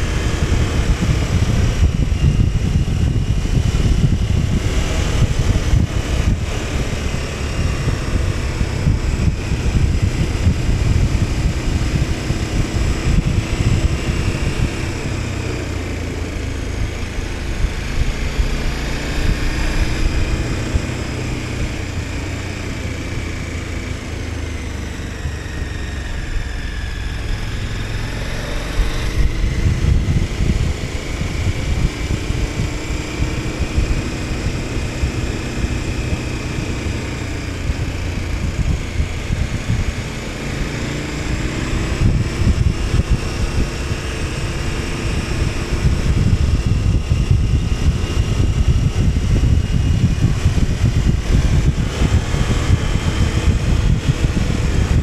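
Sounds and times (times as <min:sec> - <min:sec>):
motorcycle engine revving: 0:00.0 - 0:55.0
wind buffeting microphone: 0:00.0 - 0:55.0.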